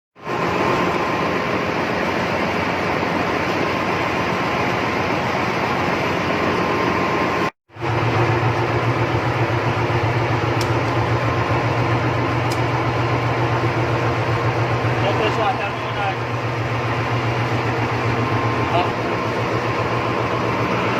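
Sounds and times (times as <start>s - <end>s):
constant machinery hum: 0.2s - 20.9s
ship machinery din: 0.2s - 20.9s.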